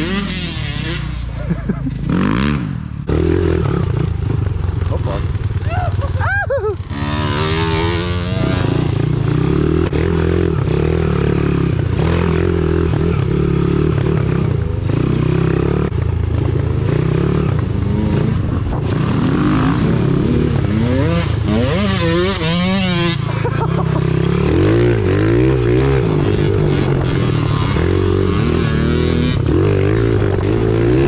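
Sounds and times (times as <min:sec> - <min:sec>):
motorbike engine revving: 0:00.0 - 0:31.0.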